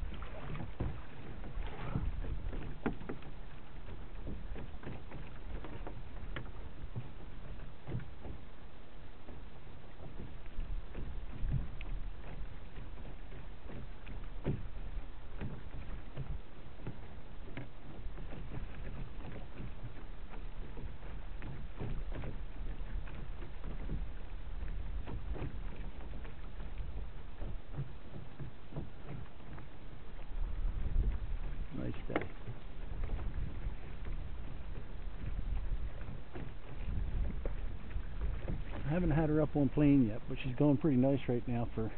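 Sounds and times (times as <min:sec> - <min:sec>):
water lapping against boat hull: 0:00.0 - 0:41.9.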